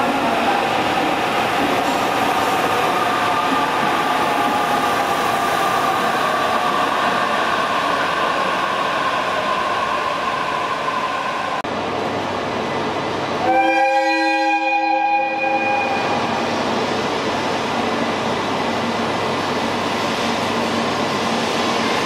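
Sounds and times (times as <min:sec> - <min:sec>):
train rolling noise: 0:00.0 - 0:22.0.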